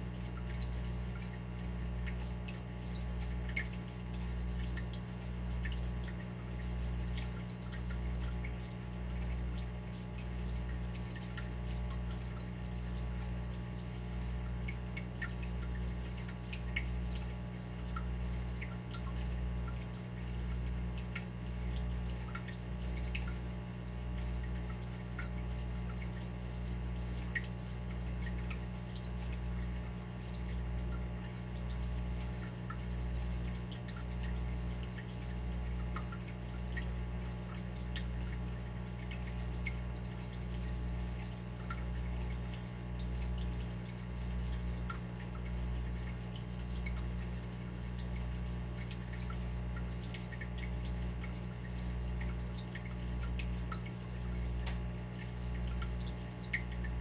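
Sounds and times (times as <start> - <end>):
water dripping: 0.0 - 57.0.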